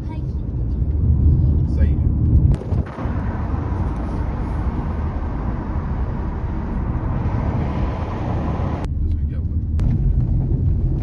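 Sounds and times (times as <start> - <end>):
car road noise inside cabin: 0.0 - 11.0.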